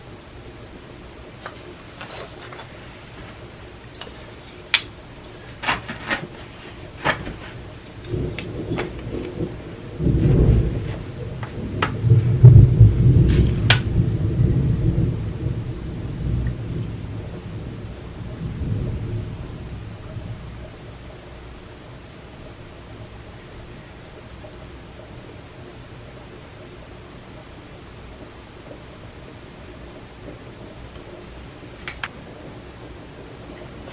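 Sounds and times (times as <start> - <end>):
rain hiss: 0.0 - 33.9
thunder rumbling: 0.0 - 33.9.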